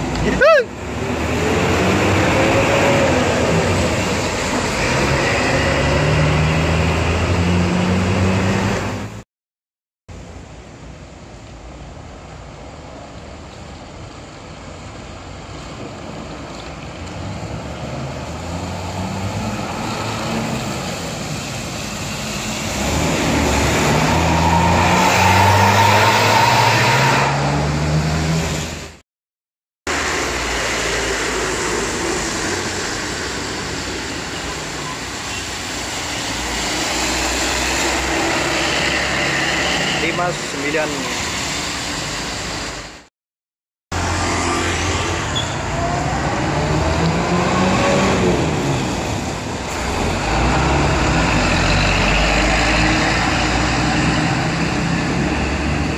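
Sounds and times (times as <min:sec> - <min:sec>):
bus diesel engine accelerating: 0:00.0 - 0:09.2, 0:13.1 - 0:29.0, 0:29.9 - 0:43.1, 0:43.9 - 0:55.9
bus passing with tyre noise: 0:00.0 - 0:09.2, 0:10.1 - 0:29.0, 0:29.9 - 0:43.1, 0:43.9 - 0:55.9.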